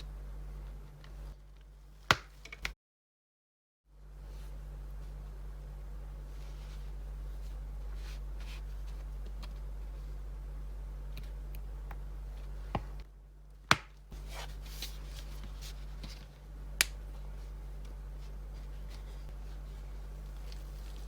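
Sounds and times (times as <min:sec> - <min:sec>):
low electrical hum: 0:00.0 - 0:02.8, 0:03.9 - 0:21.0.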